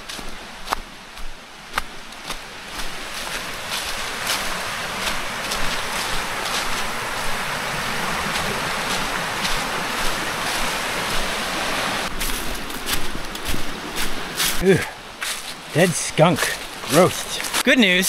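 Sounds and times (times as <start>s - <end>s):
footsteps crunching through dry leaves: 0.0s - 14.6s, 15.2s - 17.7s
stream rushing over rocks: 0.0s - 18.0s.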